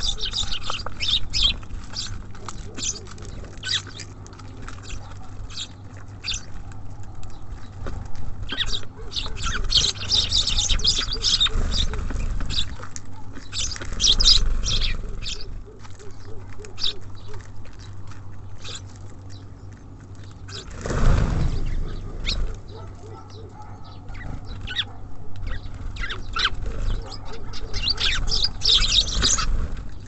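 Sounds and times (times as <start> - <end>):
low background rumble: 0.0 - 30.0
songbirds chirping: 0.0 - 30.0.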